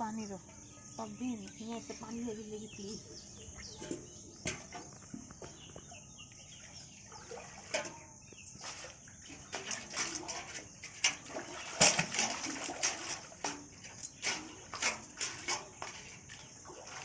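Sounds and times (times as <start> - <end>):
water splashing and sloshing: 1.7 - 17.0.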